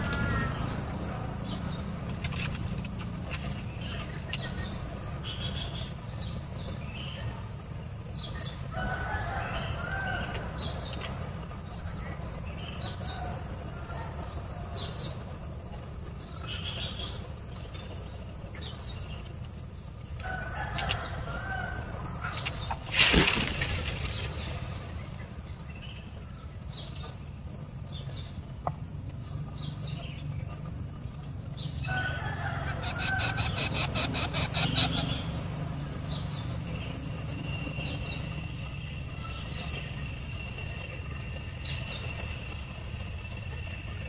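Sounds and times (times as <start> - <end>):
low cluck-like bird calls: 0.0 - 44.0.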